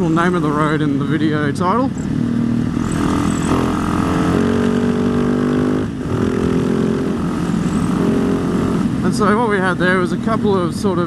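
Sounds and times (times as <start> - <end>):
motorcycle engine running: 0.0 - 11.0
wind noise: 1.9 - 11.0.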